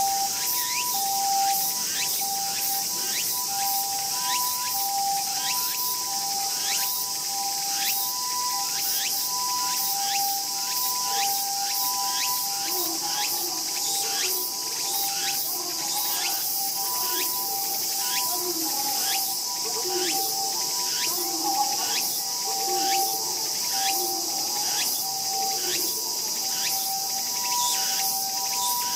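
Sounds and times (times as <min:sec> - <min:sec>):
insect high hiss: 0:00.0 - 0:28.9
insect low trilling: 0:00.0 - 0:28.9
insect rising chirp: 0:00.0 - 0:28.9.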